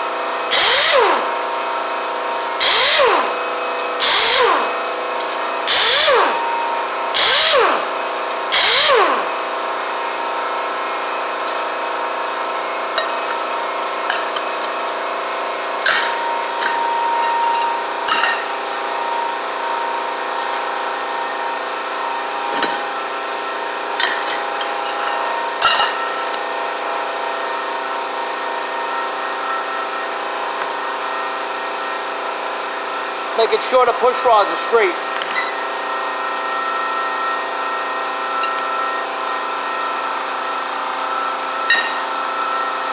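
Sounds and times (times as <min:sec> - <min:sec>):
power tool whirring: 0:00.0 - 0:42.9.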